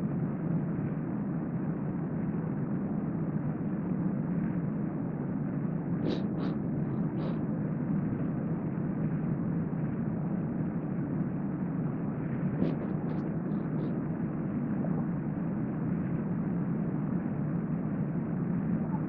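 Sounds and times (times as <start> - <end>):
low rushing room noise: 0.0 - 19.0.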